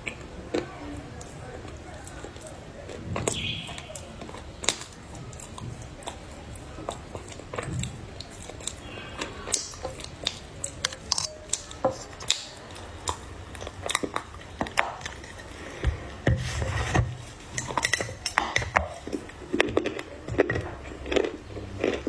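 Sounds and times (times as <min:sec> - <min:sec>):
person chewing crunchy clay: 0:00.0 - 0:22.0.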